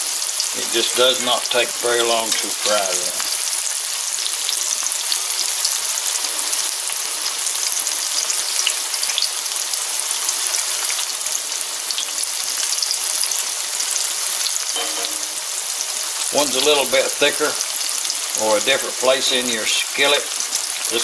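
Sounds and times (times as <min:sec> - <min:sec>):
tomato slices frying in oil: 0:00.0 - 0:21.0.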